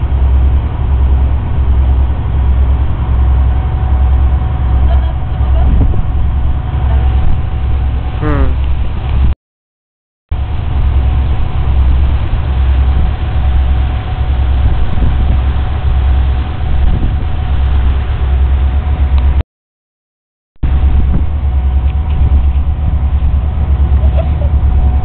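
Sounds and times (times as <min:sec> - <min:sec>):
boat engine drone: 0:00.0 - 0:09.3, 0:10.3 - 0:19.4, 0:20.6 - 0:25.0
wind noise on microphone: 0:00.0 - 0:09.3, 0:10.4 - 0:19.4, 0:20.6 - 0:25.0.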